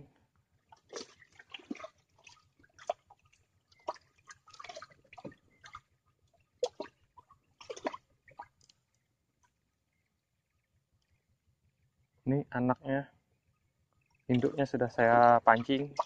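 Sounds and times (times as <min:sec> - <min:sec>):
water splashing and dripping: 0:00.6 - 0:12.0, 0:13.4 - 0:16.0.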